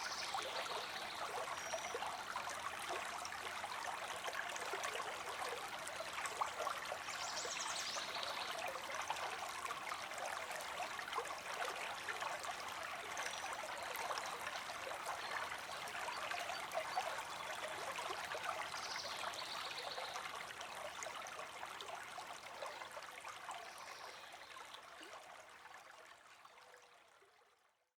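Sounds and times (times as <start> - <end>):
creek babbling: 0.0 - 26.7.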